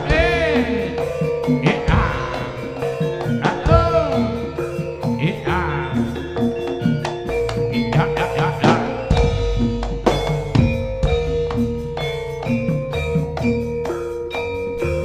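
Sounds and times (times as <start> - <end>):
drums and mallet percussion: 0.0 - 15.0
sliding melody: 0.0 - 15.0
steady held tone: 0.0 - 15.0.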